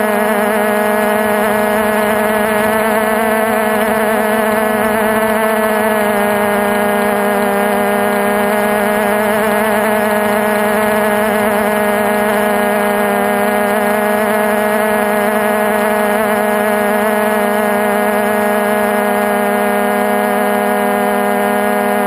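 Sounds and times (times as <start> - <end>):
drone motors humming: 0.0 - 22.0.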